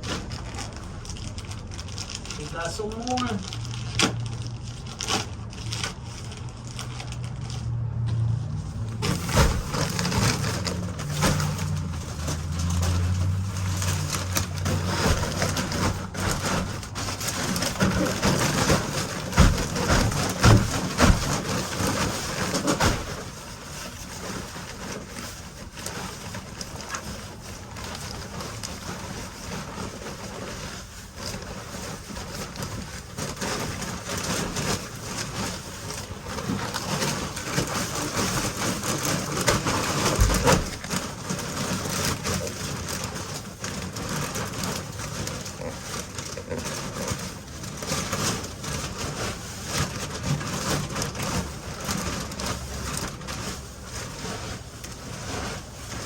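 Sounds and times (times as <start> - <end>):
rustling: 0.0 - 56.0.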